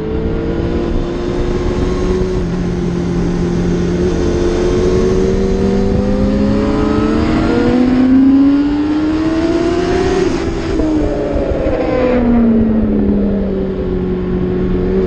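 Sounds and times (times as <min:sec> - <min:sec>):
motorcycle engine revving: 0:00.0 - 0:15.0
wind on microphone: 0:00.0 - 0:15.0.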